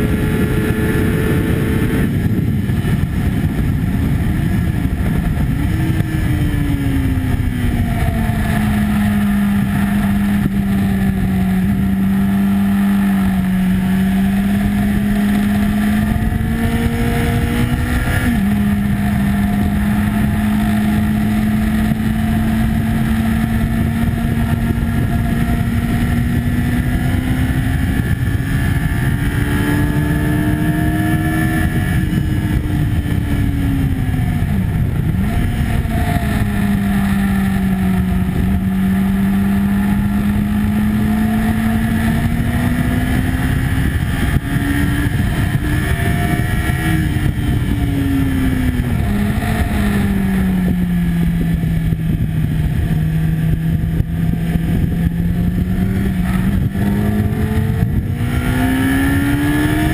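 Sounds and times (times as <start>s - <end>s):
motorcycle engine: 0.0s - 59.9s
wind rush: 0.0s - 59.9s.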